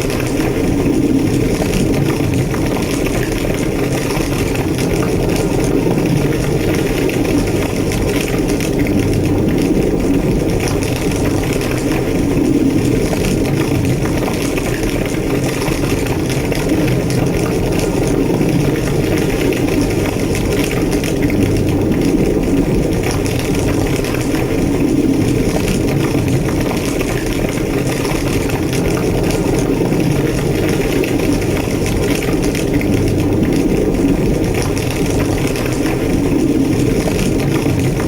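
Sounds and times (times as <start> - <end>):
large fire roaring and crackling: 0.0 - 38.0.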